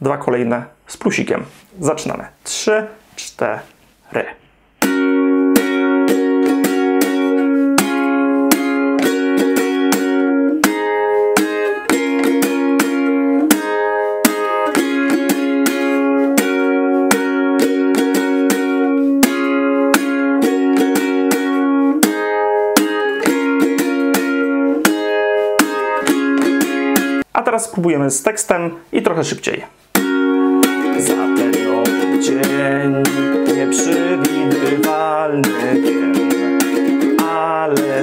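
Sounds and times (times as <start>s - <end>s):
ukulele strumming: 4.8s - 27.3s, 29.8s - 38.0s.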